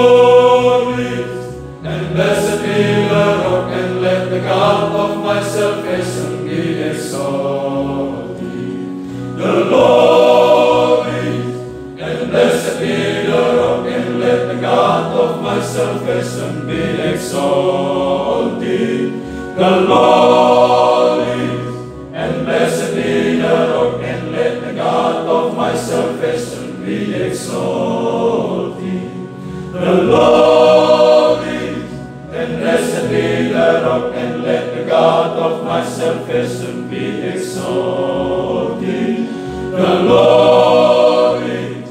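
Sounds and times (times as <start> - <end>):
male choir singing: 0.0 - 41.9.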